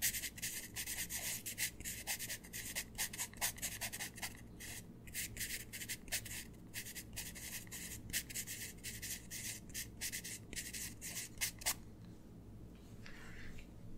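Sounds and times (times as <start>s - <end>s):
pencil writing on paper: 0.0s - 11.8s.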